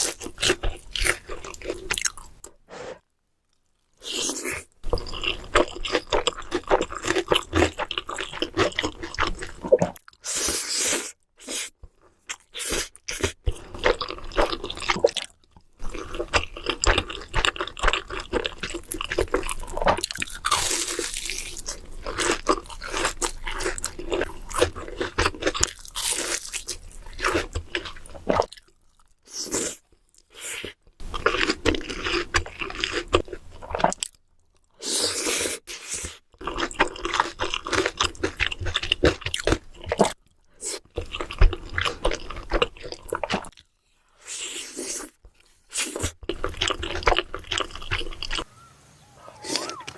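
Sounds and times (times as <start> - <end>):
person chewing and crunching: 0.0 - 2.6, 3.5 - 48.5, 49.4 - 49.9.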